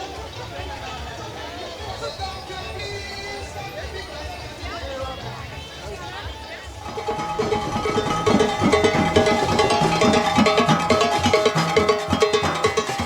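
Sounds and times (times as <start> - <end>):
soca music with drum beat: 0.0 - 13.0.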